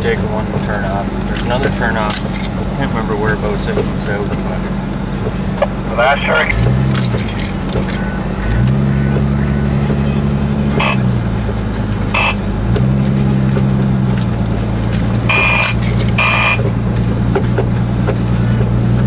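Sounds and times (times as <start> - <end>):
vehicle engine droning: 0.0 - 19.0
knocks and rattles from bumpy ground: 0.4 - 5.4, 6.5 - 12.1, 12.7 - 19.0.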